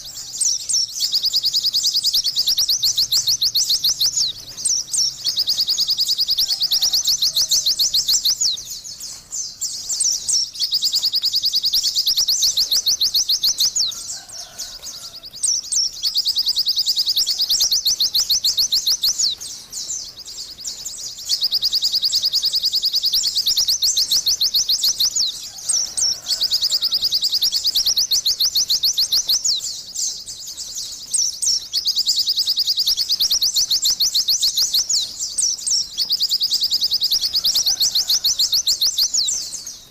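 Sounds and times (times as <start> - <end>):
songbird twittering: 0.0 - 39.9.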